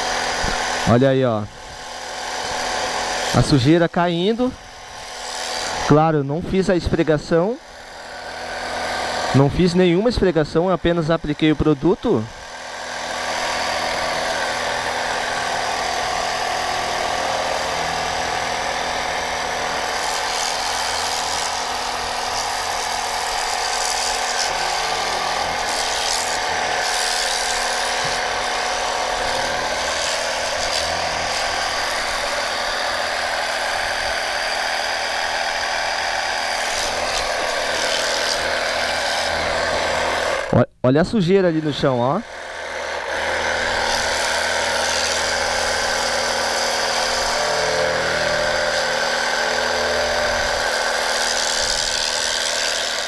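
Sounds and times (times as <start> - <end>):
electric pump whining: 0.0 - 53.0.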